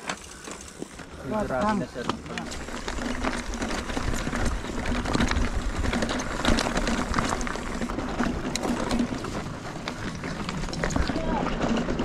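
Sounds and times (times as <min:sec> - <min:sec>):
mountain bike rattling: 0:00.0 - 0:12.0.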